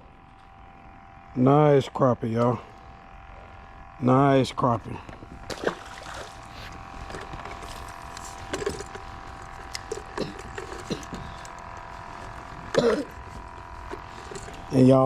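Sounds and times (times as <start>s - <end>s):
steady two-pitch hum: 0.0s - 15.0s.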